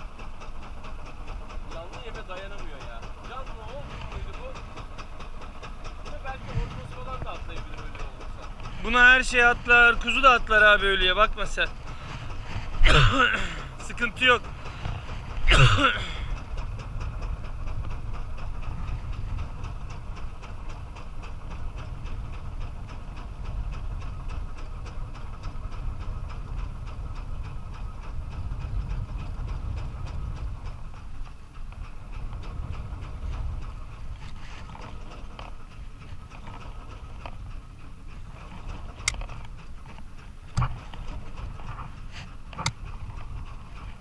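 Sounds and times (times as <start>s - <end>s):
boat engine running: 0.0s - 44.0s
fast even engine ticking: 0.0s - 44.0s.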